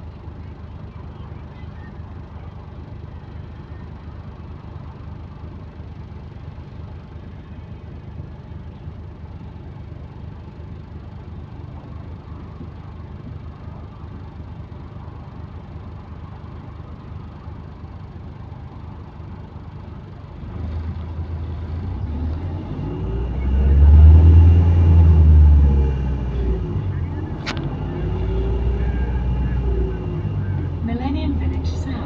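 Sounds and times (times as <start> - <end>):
bus engine rumbling: 0.0 - 32.0.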